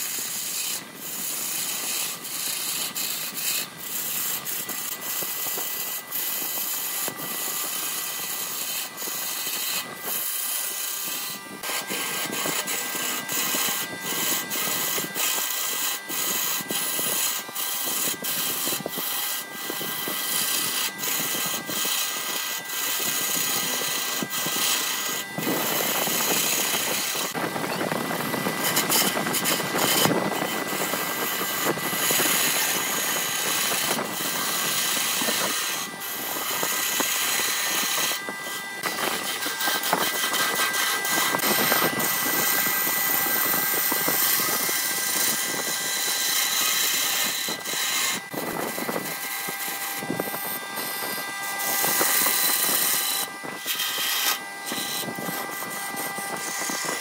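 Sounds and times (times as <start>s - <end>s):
lathe whine: 0.0s - 57.0s
tool cutting wood on lathe: 0.0s - 57.0s.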